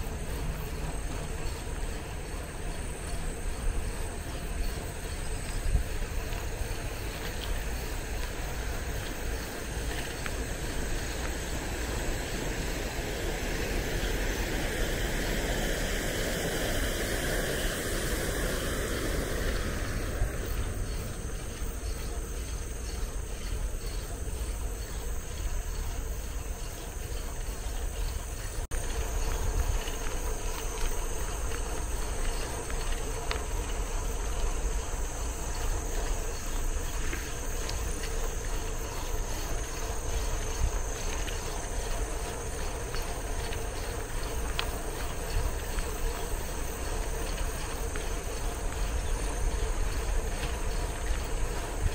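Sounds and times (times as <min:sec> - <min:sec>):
insects chirring: 0:00.0 - 0:51.9
wind and road noise rumble: 0:00.0 - 0:51.9.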